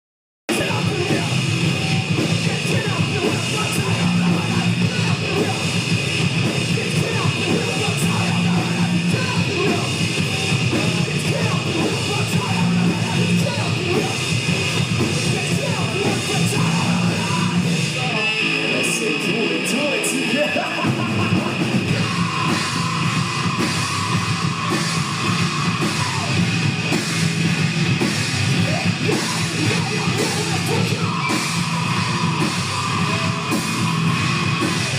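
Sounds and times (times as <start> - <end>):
heavy rock song: 0.5 - 34.9.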